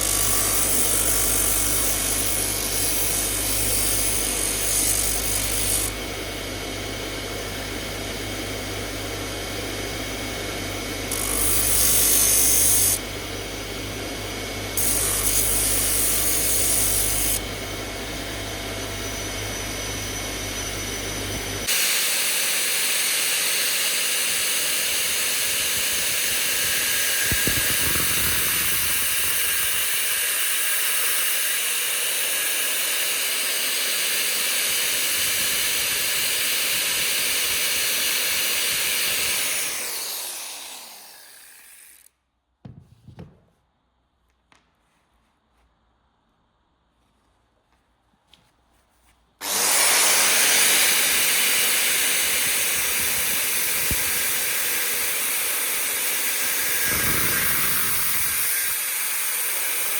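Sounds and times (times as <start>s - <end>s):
electric power tool running: 0.0s - 42.2s, 49.4s - 59.9s.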